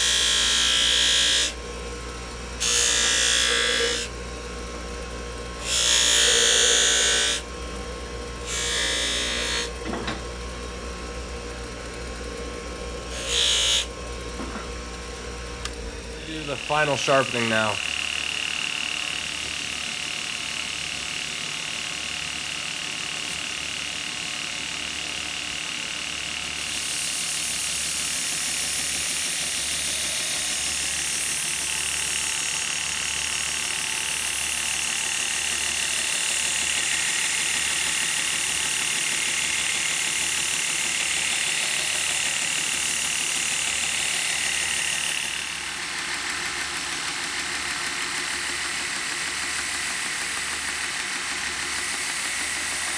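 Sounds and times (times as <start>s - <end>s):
sharpening machine whine: 0.0s - 19.5s, 26.5s - 52.9s.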